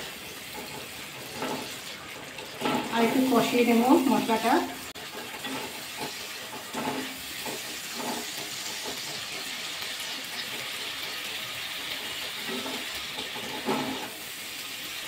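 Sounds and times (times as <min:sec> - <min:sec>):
wooden spatula scraping a pan: 0:00.0 - 0:14.7
masala sizzling in oil: 0:00.0 - 0:15.0.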